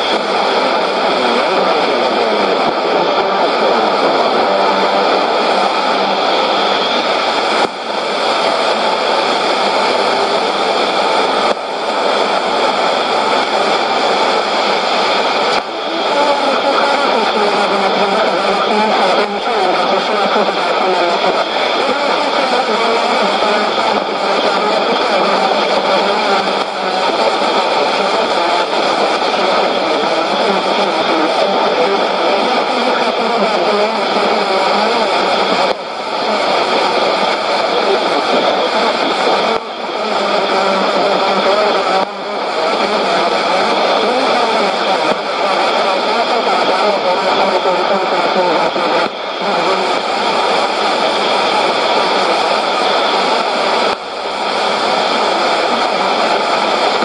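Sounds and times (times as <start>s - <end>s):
loud rushing static hiss: 0.0s - 57.0s
radio noise through speaker: 0.0s - 57.0s.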